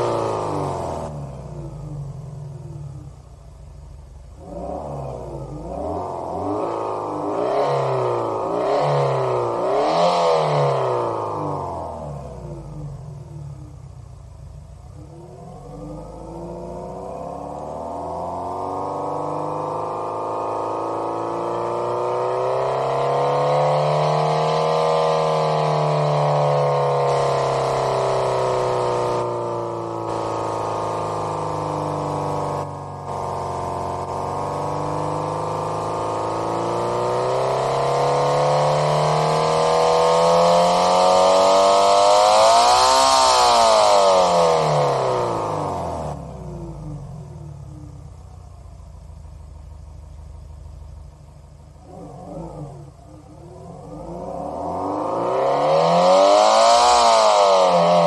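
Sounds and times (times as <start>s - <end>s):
synthesized engine revving: 0.0s - 3.2s, 4.3s - 13.9s, 14.9s - 48.2s, 51.6s - 58.0s.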